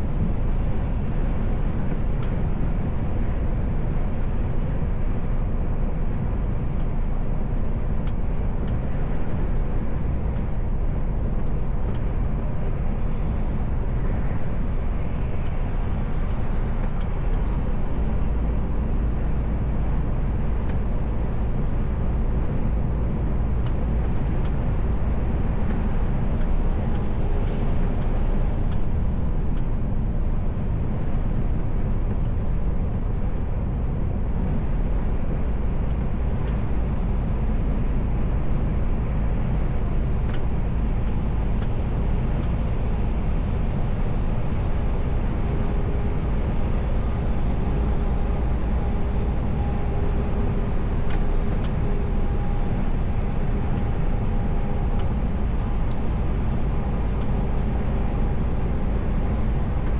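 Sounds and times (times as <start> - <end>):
truck cab road rumble: 0.0 - 59.9.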